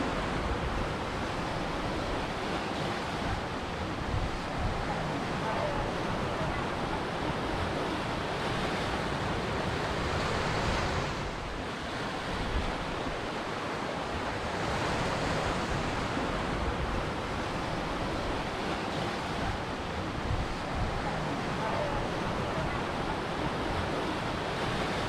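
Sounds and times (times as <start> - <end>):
ocean waves breaking on shore: 0.0 - 25.0
wind on microphone: 0.0 - 25.0.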